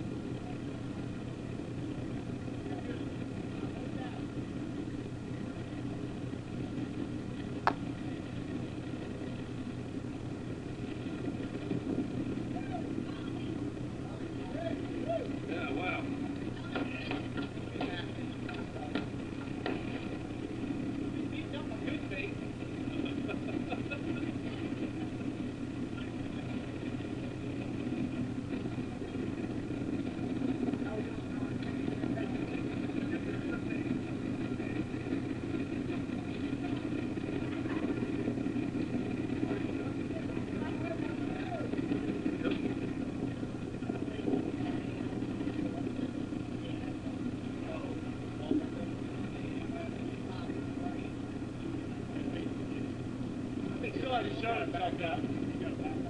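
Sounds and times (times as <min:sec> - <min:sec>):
boat engine idling: 0:00.0 - 0:56.0.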